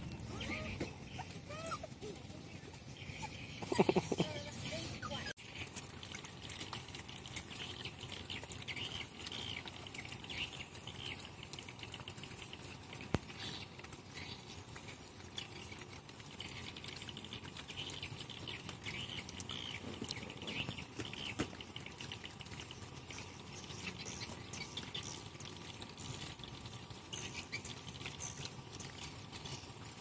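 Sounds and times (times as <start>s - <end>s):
puppies lapping and chewing: 0.0s - 30.0s.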